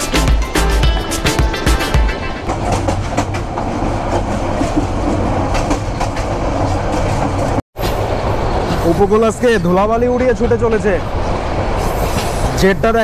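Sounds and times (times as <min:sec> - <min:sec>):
train rumbling: 0:00.0 - 0:13.0
wheels clacking over rail joints: 0:01.7 - 0:13.0.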